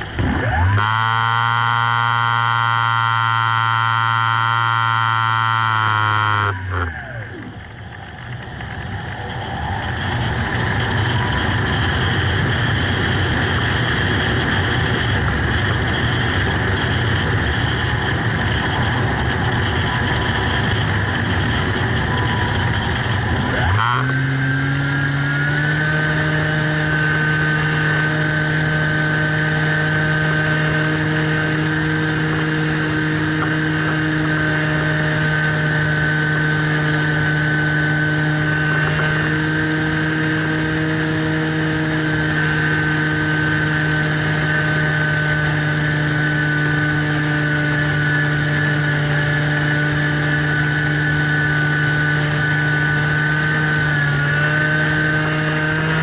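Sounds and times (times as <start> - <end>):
model plane motor whining: 0.0 - 56.0.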